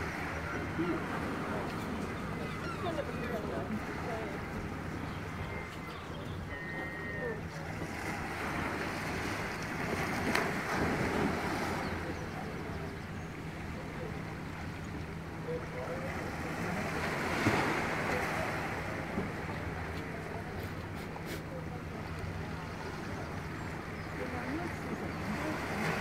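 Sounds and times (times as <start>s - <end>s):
small waves lapping on concrete: 0.0s - 26.0s.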